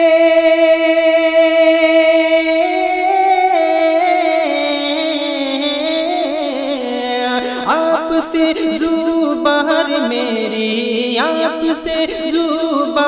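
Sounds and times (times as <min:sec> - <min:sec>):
man singing long held note: 0:00.0 - 0:13.0.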